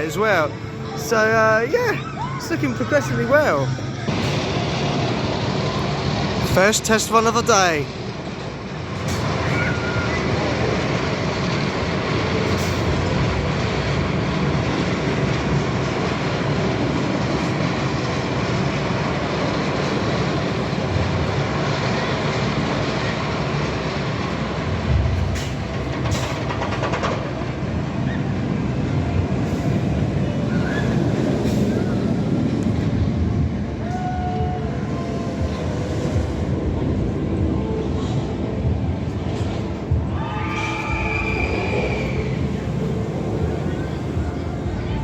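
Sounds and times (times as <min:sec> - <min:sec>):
roller coaster rail rumbling: 0:00.0 - 0:45.0.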